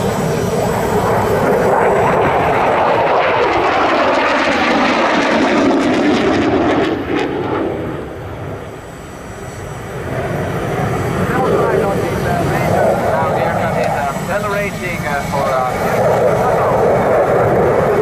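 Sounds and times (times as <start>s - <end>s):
jet engines roaring overhead: 0.0s - 18.0s.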